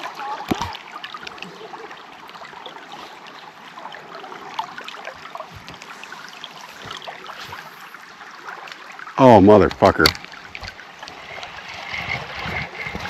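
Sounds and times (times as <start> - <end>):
river water splashing and trickling: 0.0 - 13.0.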